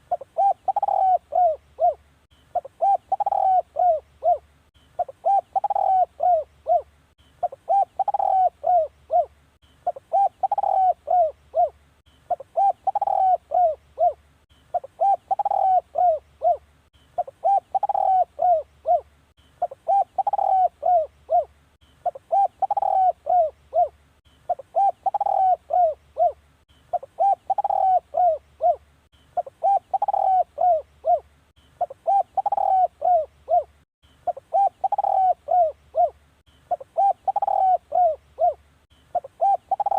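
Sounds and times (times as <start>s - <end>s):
dove cooing: 0.0s - 28.8s, 29.4s - 39.9s.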